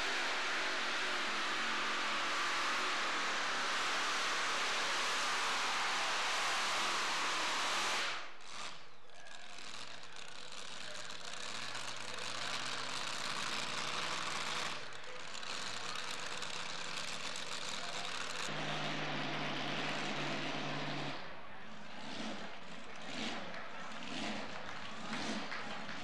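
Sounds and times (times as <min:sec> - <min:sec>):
truck engine revving and idling: 0:00.0 - 0:26.0.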